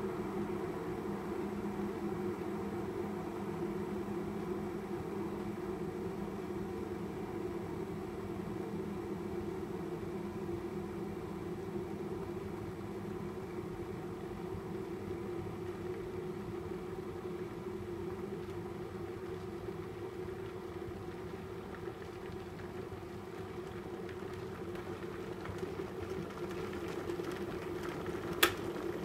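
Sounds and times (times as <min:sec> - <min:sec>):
electric kettle heating water: 0:00.0 - 0:29.0.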